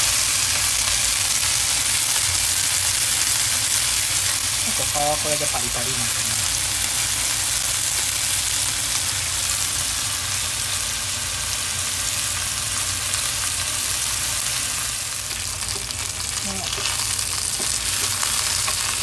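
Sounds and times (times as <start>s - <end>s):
chicken sizzling in frying pan: 0.0s - 19.0s.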